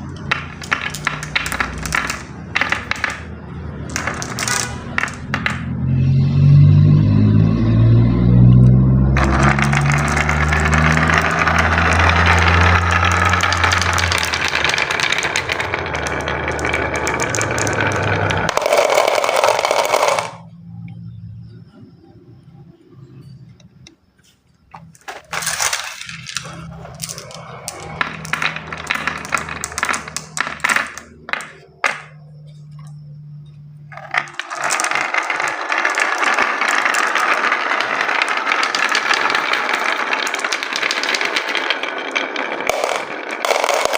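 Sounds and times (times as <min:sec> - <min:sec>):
marbles rolling down wooden track: 0:00.0 - 0:06.1, 0:07.7 - 0:20.5, 0:24.8 - 0:43.9.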